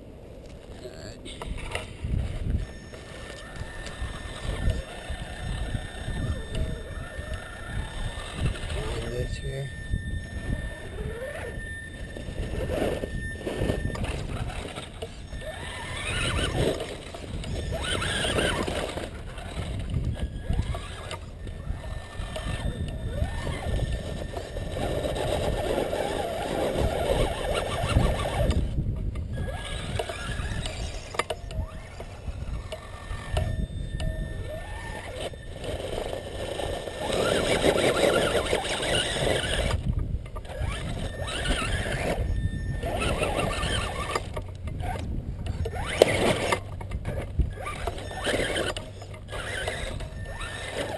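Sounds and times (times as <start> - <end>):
wind on microphone: 0.0 - 50.9
electric motor whining: 0.8 - 50.9.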